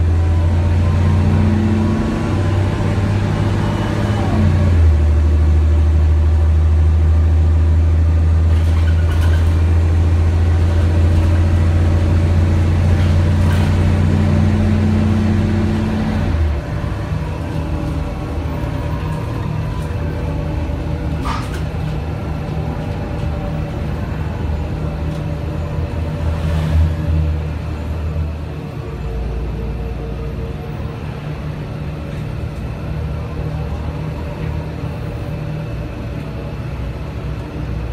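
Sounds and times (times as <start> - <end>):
bus engine drone: 0.0 - 37.9.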